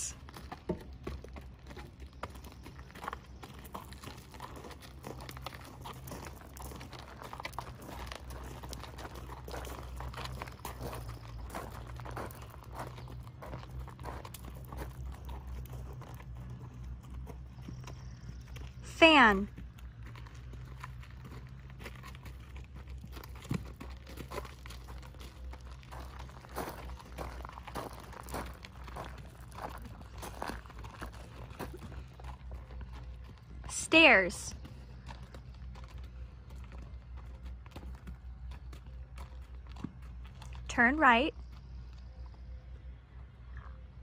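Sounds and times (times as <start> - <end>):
footsteps crunching on gravel: 0.0 - 40.7
hooves crunching on gravel: 0.0 - 43.9
low steady rumble: 0.0 - 44.0.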